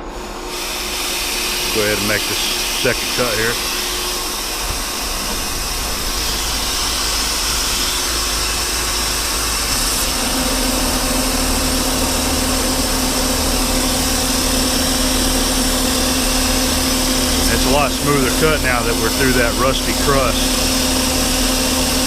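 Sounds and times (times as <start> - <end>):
metal lathe cutting: 0.0 - 22.0
steady hum: 0.0 - 22.0
coolant mist hiss: 0.1 - 22.0.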